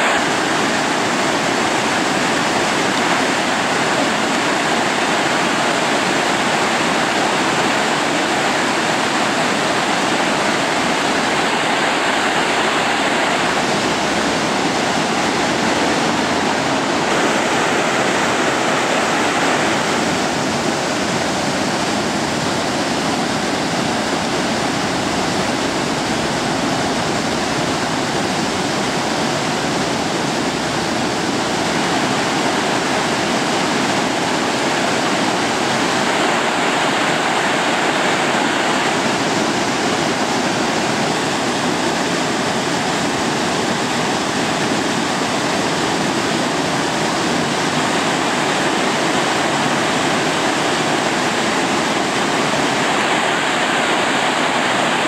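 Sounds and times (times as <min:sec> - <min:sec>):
fast-flowing river water: 0:00.0 - 0:55.0.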